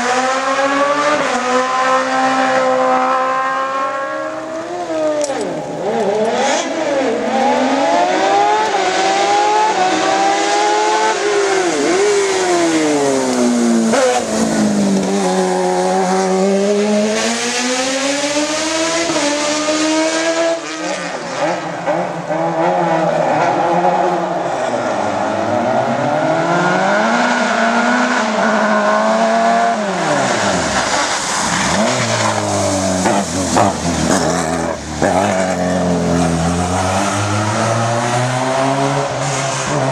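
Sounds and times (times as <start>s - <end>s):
racing car engines at hard throttle: 0.0s - 39.9s.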